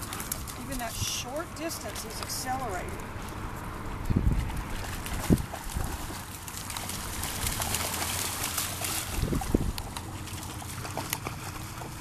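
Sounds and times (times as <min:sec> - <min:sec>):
dogs splashing through water: 0:00.0 - 0:12.0.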